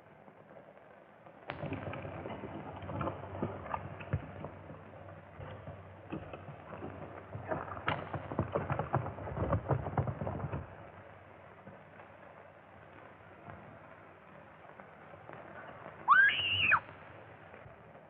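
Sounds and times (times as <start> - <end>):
horses galloping hoofbeats: 0.0 - 18.0.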